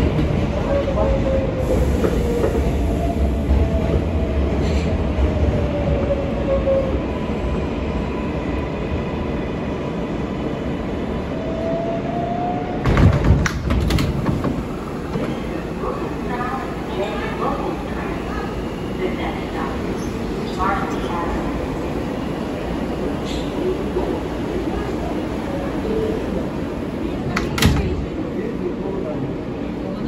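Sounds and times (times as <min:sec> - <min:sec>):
train wheels rumbling on track: 0:00.0 - 0:11.8, 0:12.5 - 0:30.0.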